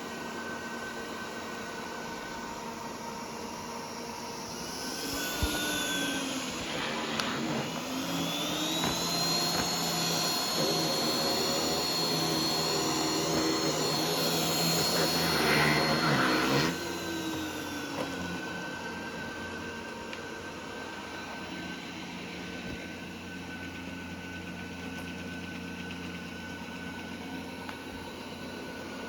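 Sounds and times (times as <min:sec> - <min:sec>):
robot vacuum motor whine: 0:00.0 - 0:29.0.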